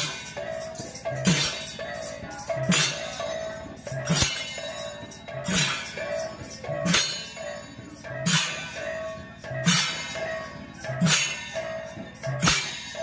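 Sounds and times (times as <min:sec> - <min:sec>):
hand cymbals clashing: 0:00.0 - 0:13.0.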